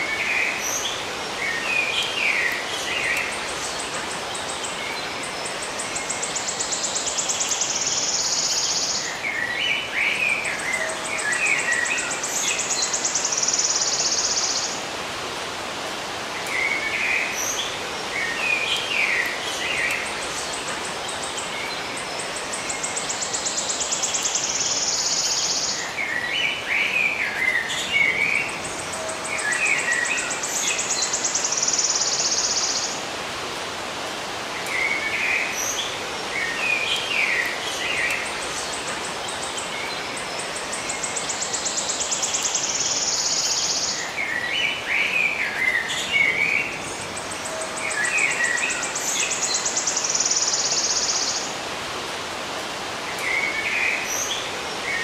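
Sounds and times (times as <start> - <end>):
songbirds chirping: 0.0 - 55.0
steady background hiss: 0.0 - 55.0.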